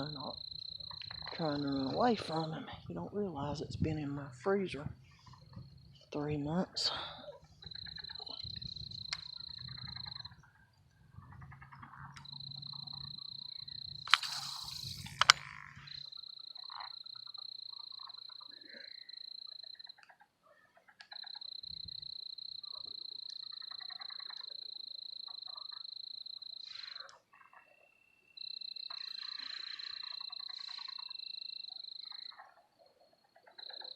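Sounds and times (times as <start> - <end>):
high-pitched insect trill: 0.0 - 4.2, 6.9 - 20.1, 21.0 - 33.9
frogs croaking: 0.0 - 33.9.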